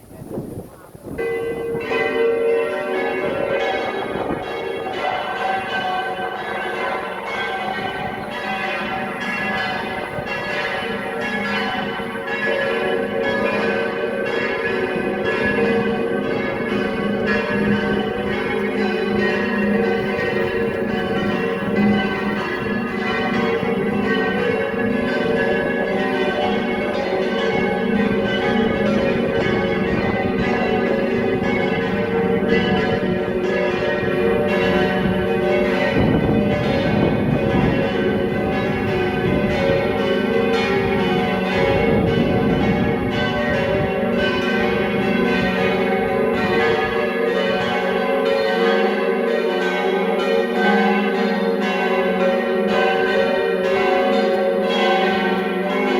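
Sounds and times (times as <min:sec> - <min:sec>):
church bells pealing: 0:01.1 - 0:55.9.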